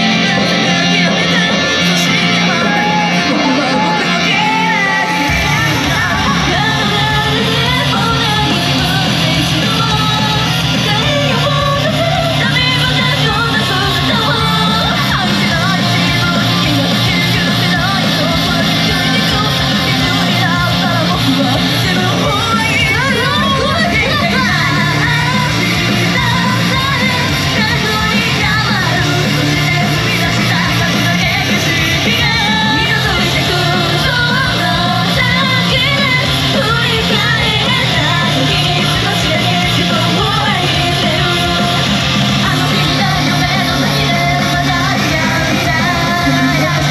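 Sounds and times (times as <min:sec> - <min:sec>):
live pop rock song with singing: 0:00.0 - 0:46.9.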